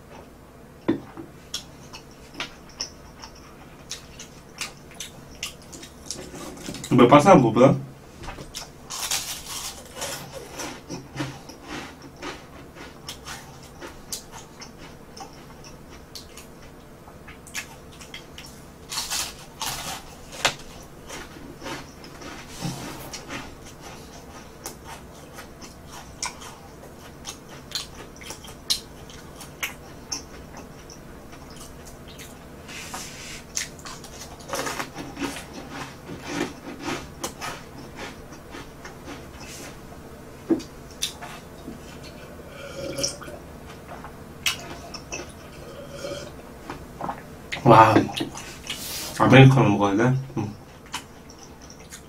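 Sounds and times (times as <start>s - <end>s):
person chewing crunchy bread: 1.4s - 7.0s, 8.4s - 49.2s, 50.4s - 52.0s.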